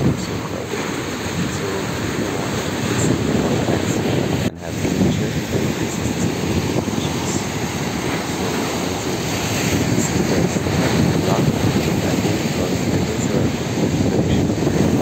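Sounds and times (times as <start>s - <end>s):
surf breaking on shore: 0.0s - 15.0s
wind buffeting microphone: 0.0s - 15.0s.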